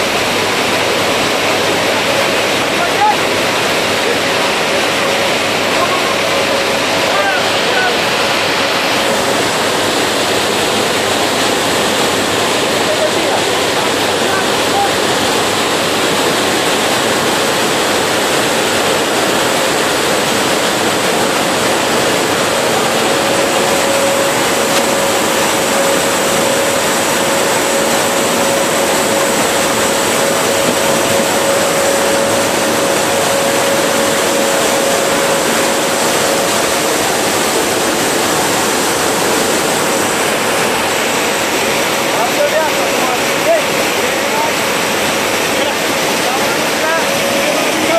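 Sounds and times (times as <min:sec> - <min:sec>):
aircraft cabin engine and air noise: 0:00.0 - 0:47.9
steady mid-pitched hum: 0:00.0 - 0:47.9.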